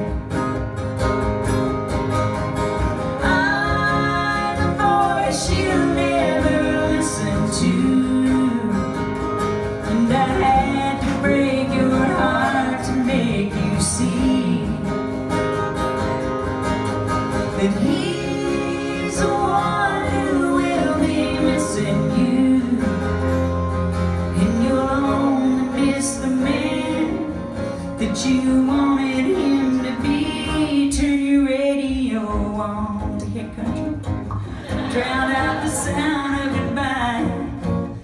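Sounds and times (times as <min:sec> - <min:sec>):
country song on acoustic guitars: 0:00.0 - 0:38.0.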